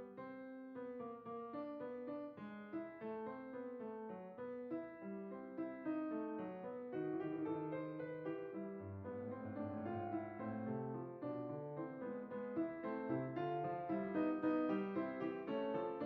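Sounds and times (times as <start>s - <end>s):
piano repeated notes: 0.0s - 16.0s.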